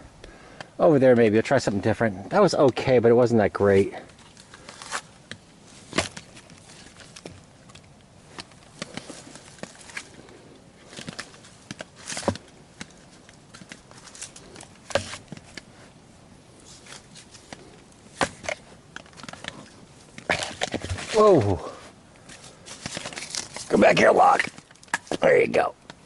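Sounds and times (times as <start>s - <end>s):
camping gear rustling and knocking: 3.9s - 26.0s.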